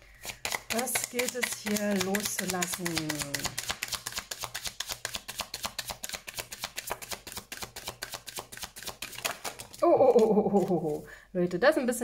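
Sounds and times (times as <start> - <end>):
cards being shuffled: 0.1 - 11.1.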